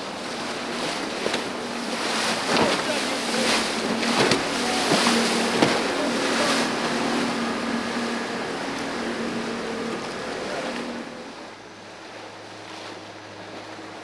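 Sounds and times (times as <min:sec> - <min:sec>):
churning water and wake: 0:00.0 - 0:14.0
outboard motor humming: 0:00.0 - 0:14.0
water splashes: 0:00.0 - 0:14.0.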